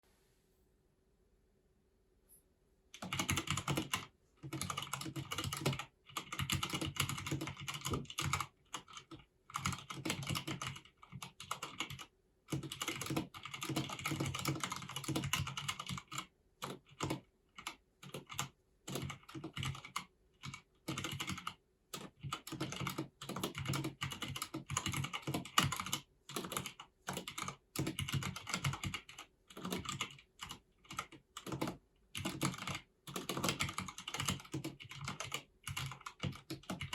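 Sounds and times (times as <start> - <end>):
mechanical keyboard typing: 3.0 - 36.9.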